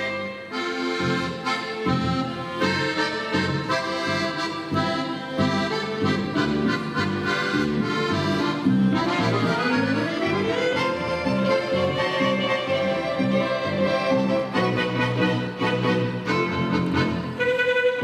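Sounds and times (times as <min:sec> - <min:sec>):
accordion melody: 0:00.0 - 0:18.0.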